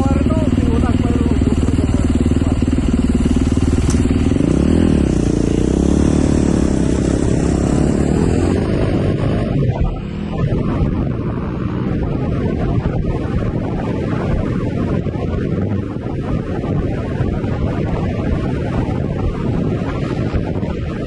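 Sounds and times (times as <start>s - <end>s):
dirt bike engine running: 0.0s - 21.0s
wind noise on microphone: 0.0s - 21.0s.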